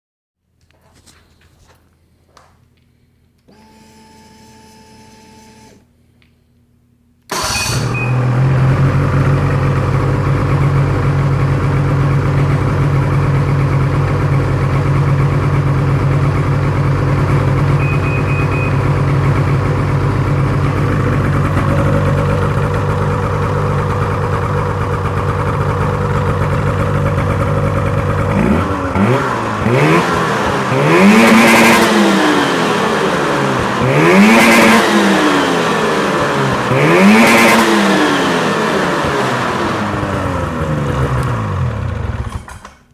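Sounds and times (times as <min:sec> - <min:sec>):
snowmobile engine idling and revving: 0:07.4 - 0:42.6.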